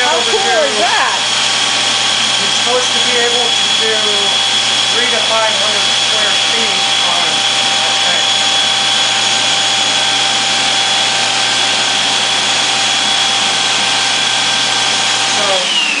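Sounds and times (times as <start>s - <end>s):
floor cleaning machine motor whine: 0.0s - 16.0s.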